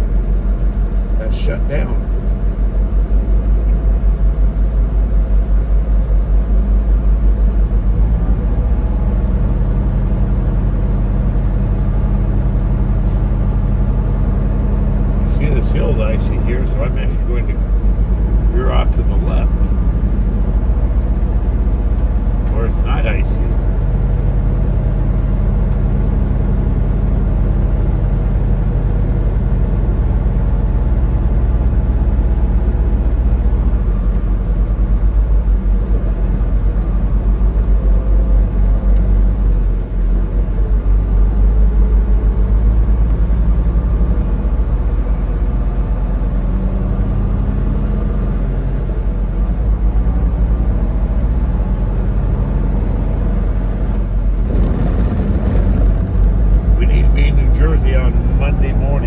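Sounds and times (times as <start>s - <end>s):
road noise: 0.0s - 59.0s
truck diesel engine running: 0.0s - 59.0s.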